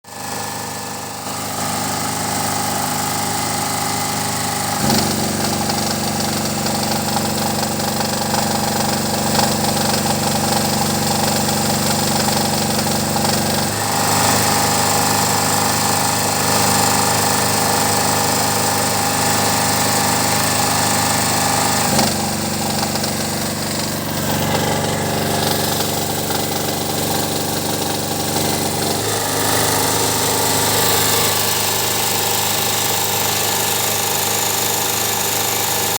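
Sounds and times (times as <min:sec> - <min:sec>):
generator running with knock: 0:00.1 - 0:35.9.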